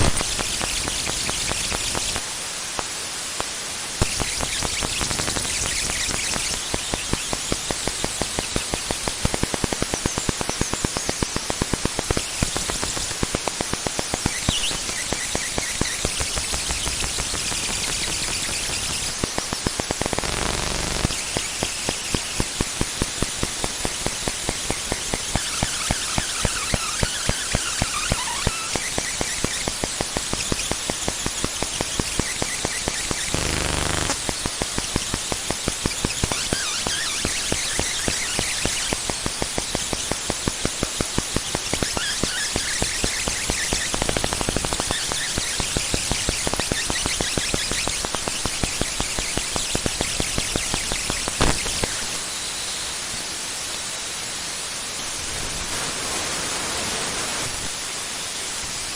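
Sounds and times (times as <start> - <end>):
faint warbling chirps: 0.0 - 2.2, 4.0 - 52.8
rapid sharp clicks: 0.0 - 52.2
static hiss with crackling: 0.0 - 58.9
short buzzing stutter: 4.0 - 52.2.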